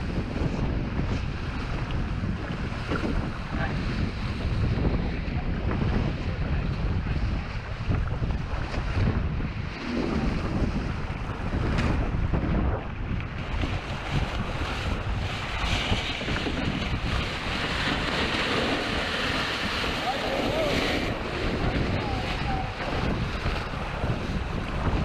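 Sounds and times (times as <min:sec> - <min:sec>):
water rushing along hull: 0:00.0 - 0:25.0
wind buffeting microphone: 0:00.0 - 0:25.0.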